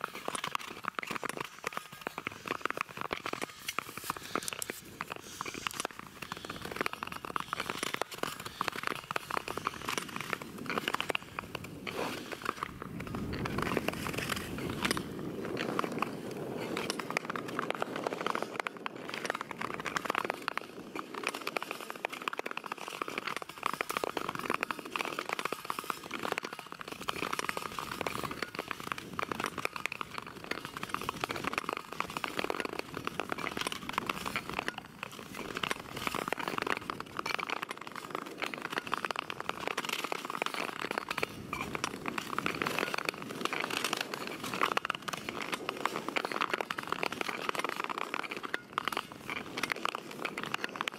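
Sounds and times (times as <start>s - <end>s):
ice skate blades scraping: 0.0s - 50.9s.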